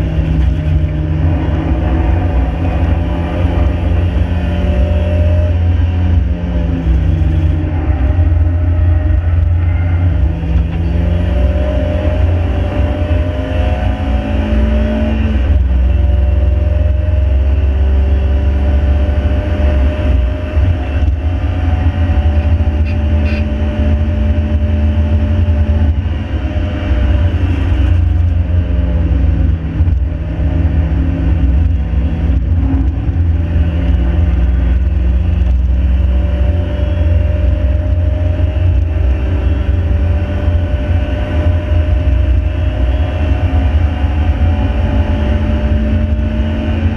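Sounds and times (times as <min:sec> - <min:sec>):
car engine accelerating: 0:00.0 - 0:46.9
road and wind rumble: 0:00.0 - 0:46.9.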